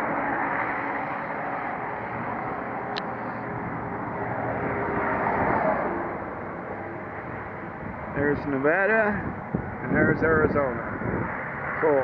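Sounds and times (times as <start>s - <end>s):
road traffic roar: 0.0s - 12.0s.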